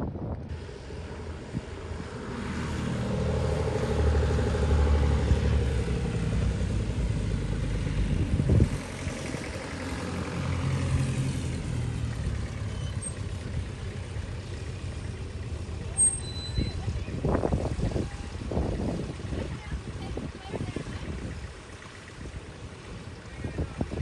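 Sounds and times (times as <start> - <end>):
tractor engines passing: 0.0 - 24.0.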